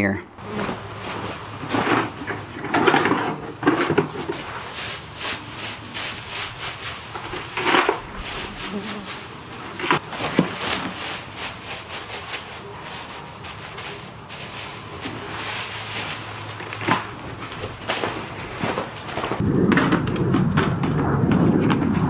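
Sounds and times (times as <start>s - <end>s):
wood chips rustling and crunching: 0.4s - 19.4s
wood chips dropped into plastic pail: 0.7s - 19.4s.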